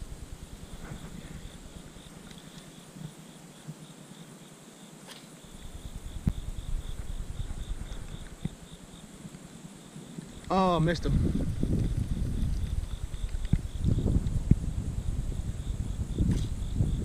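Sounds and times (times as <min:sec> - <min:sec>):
wind rumbling on microphone: 0:00.0 - 0:03.2, 0:05.5 - 0:17.0
insect chirping: 0:00.0 - 0:17.0.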